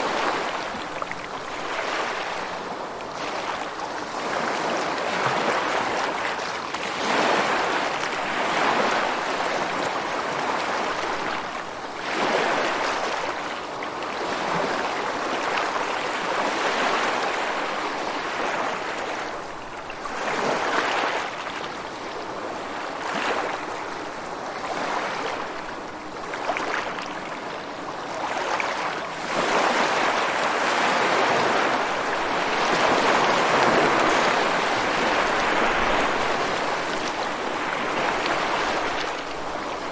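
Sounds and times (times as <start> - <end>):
ocean surf washing: 0.0 - 13.5, 14.1 - 39.9.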